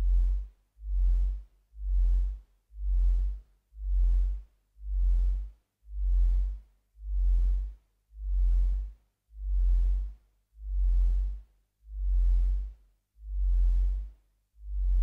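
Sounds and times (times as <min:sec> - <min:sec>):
deep bass pulse: 0:00.0 - 0:15.0.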